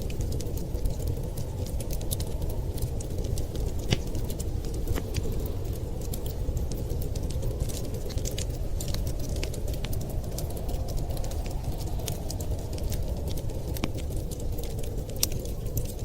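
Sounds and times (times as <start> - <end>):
steady low rumble: 0.0 - 16.0
wood fire crackling: 0.0 - 16.0
sharp pops of burning wood: 0.3 - 16.0.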